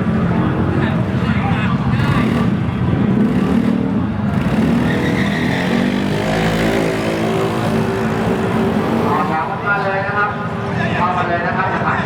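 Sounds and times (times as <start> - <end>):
scooter engines running hard: 0.0 - 9.7.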